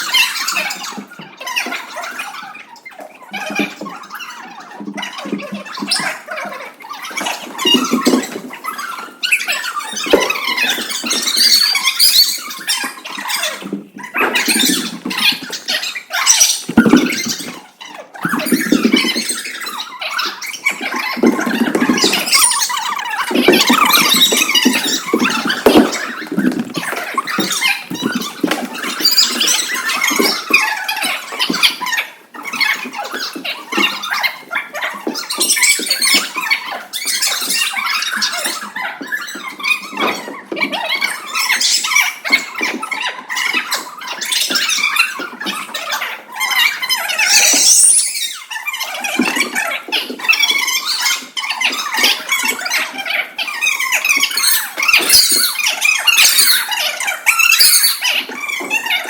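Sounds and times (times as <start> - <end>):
children shouting and squealing: 0.0 - 59.0.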